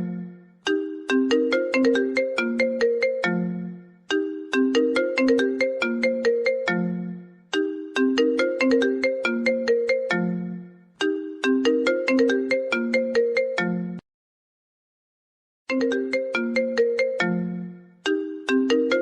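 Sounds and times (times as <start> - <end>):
phone ringtone marimba notes: 0.0 - 14.0, 15.7 - 19.0.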